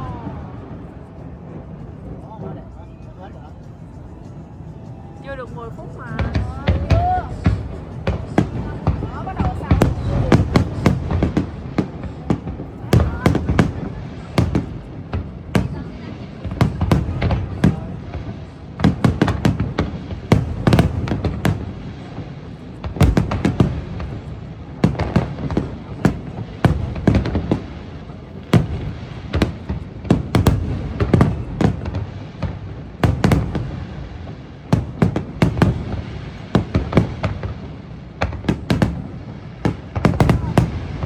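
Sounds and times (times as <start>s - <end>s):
fireworks bangs: 4.2s - 41.0s.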